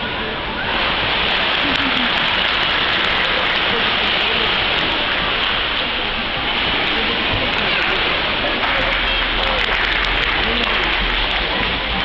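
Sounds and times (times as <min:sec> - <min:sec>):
pool water rushing and splashing: 0:00.0 - 0:12.0.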